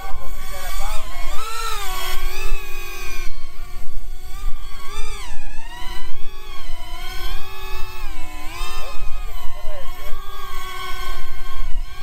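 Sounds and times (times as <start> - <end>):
drone motors whining: 0.0 - 12.0
wind rumble on microphone: 0.0 - 12.0.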